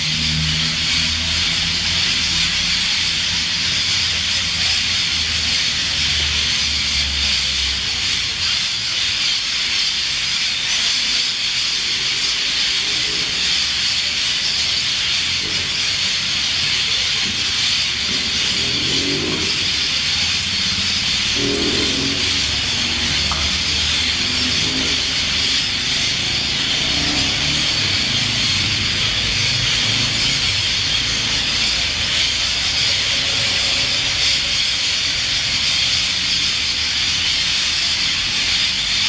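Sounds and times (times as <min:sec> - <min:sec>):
cicadas chorus: 0:00.0 - 0:39.0.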